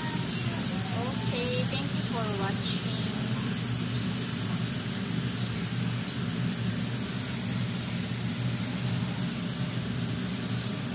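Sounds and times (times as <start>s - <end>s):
mechanical hum with hiss: 0.0s - 10.9s.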